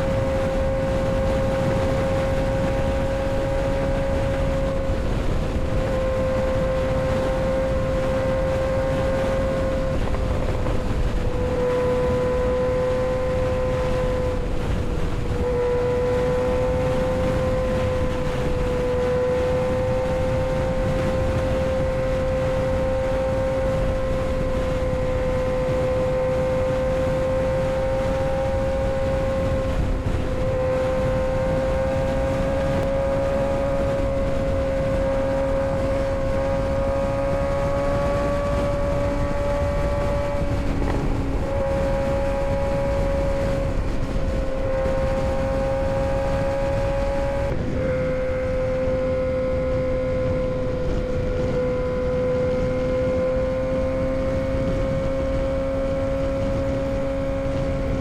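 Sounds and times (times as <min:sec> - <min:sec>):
motorcycle engine pulling: 0:00.0 - 0:58.0
wind rush on microphone: 0:00.0 - 0:58.0.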